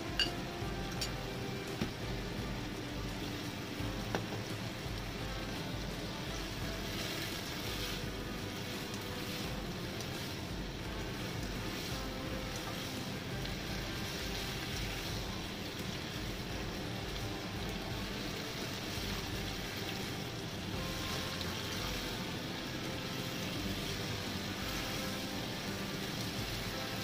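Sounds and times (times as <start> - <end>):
food sizzling in wok: 0.0 - 27.0
spatula stirring in wok: 0.0 - 27.0.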